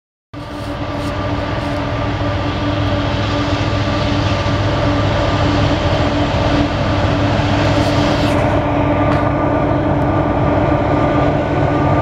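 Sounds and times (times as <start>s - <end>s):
droning hum: 0.4s - 12.0s
train rumble: 0.4s - 12.0s.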